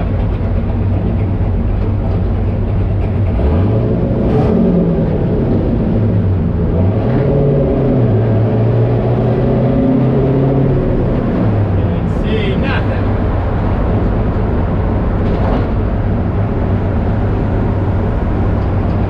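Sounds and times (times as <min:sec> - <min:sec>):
engine accelerating: 0:00.0 - 0:19.0.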